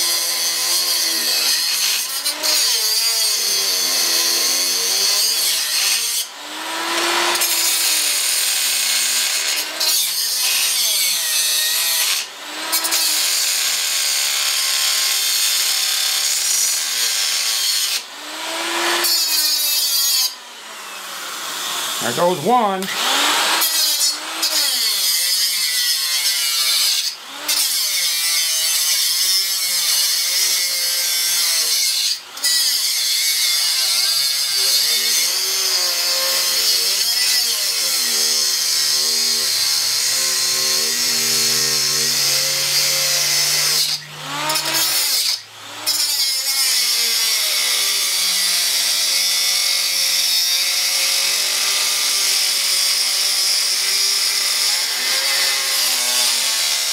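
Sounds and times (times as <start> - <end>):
angle grinder cutting steel: 0.0 - 56.9.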